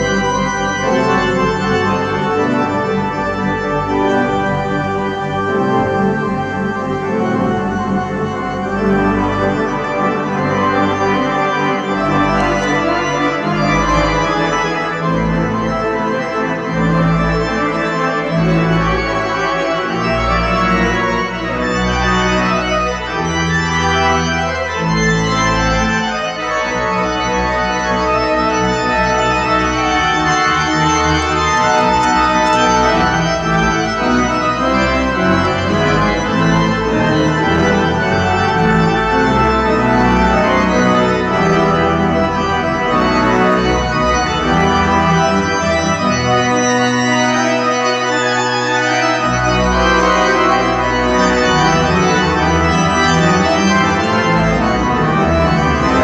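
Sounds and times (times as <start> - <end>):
pipe organ playing loudly: 0.0 - 56.0.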